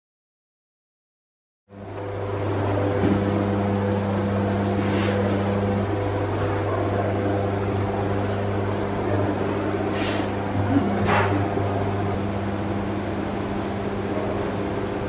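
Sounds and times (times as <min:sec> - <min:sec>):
machine hum: 0:01.7 - 0:15.0.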